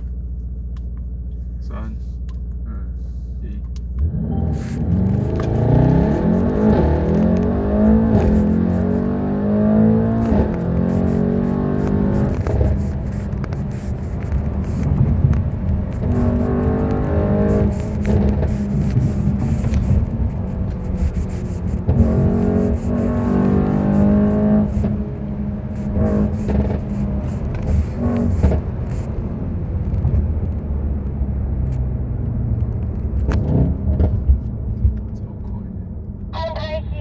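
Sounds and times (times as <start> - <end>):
car engine accelerating hard: 0.8 - 36.5.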